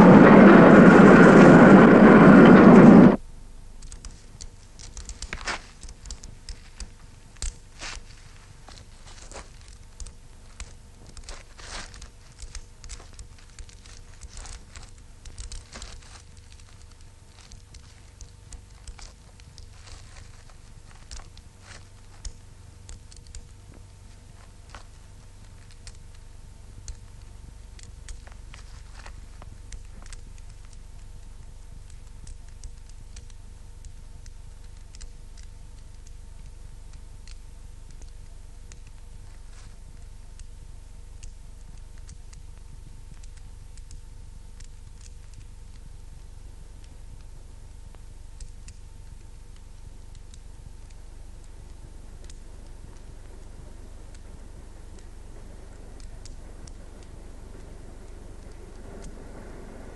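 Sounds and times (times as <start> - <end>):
faint steady hum: 0.0 - 59.9
faint steady tones: 0.0 - 59.9
wood fire crackling: 0.0 - 59.9.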